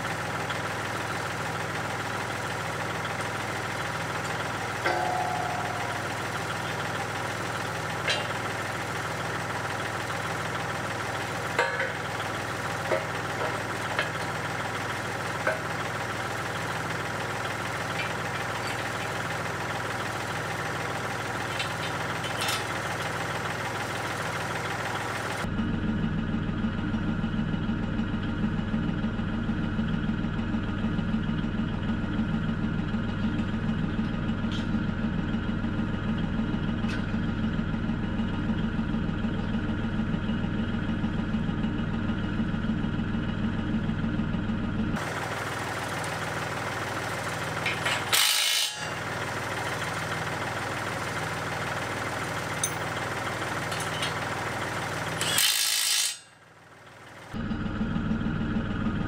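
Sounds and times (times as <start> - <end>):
diesel engine idling: 0.0 - 55.2, 56.3 - 59.0.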